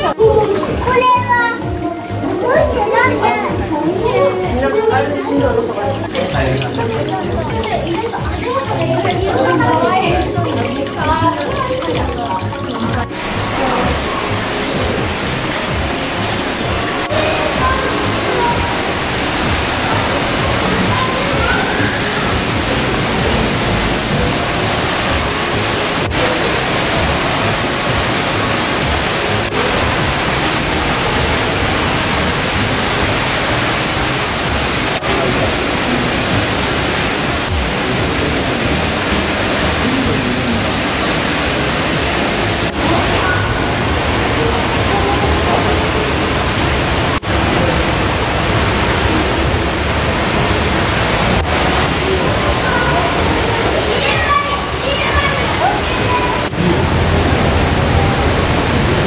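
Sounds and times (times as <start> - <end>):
falling water rushing: 0.0 - 59.0.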